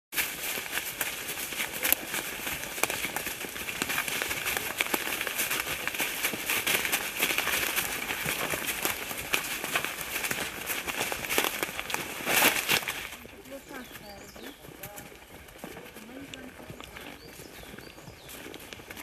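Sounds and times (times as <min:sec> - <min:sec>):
footsteps crunching dry leaves: 0:00.1 - 0:19.0
hoof falls: 0:00.2 - 0:19.0.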